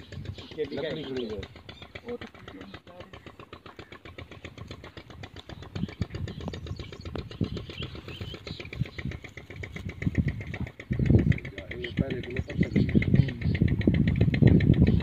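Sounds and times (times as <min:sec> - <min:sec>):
small engine puttering: 0:00.0 - 0:15.0.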